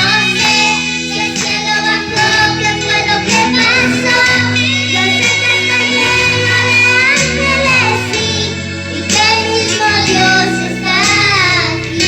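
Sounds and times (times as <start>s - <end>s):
girl singing: 0.0s - 12.0s
instrumental backing: 0.0s - 12.0s.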